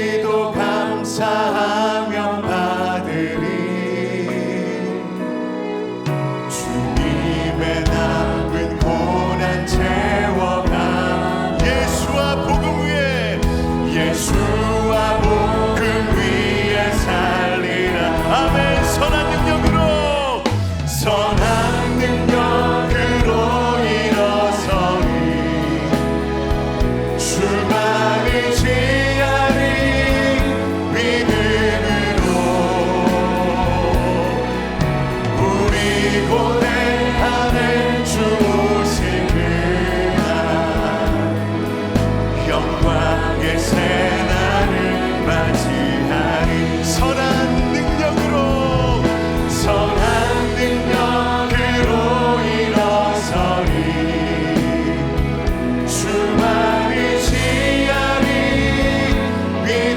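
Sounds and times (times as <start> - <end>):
group singing praise song: 0.0 - 59.9
instrumental accompaniment: 0.0 - 59.9.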